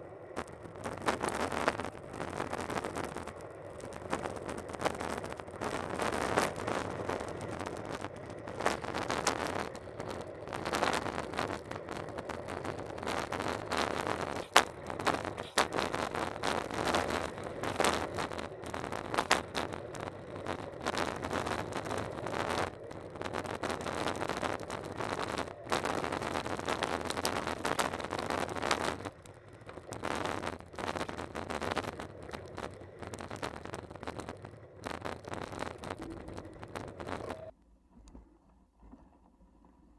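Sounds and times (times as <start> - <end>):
wind and tyres rushing: 0.0 - 37.5.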